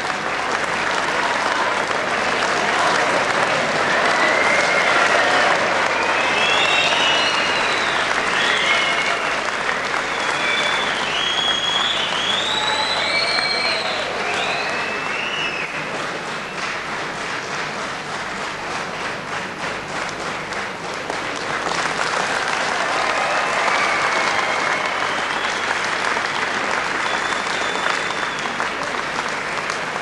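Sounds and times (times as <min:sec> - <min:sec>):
audience applauding: 0:00.0 - 0:30.0.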